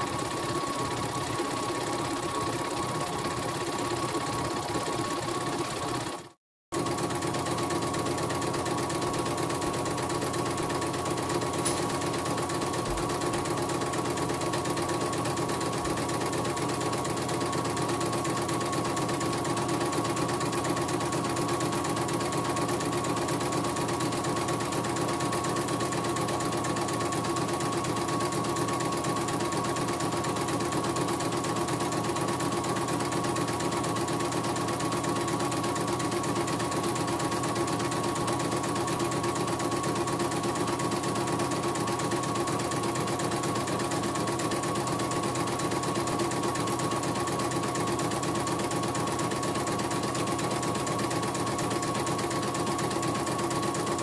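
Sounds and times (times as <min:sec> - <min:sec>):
embroidery machine stitching: 0:00.0 - 0:54.0.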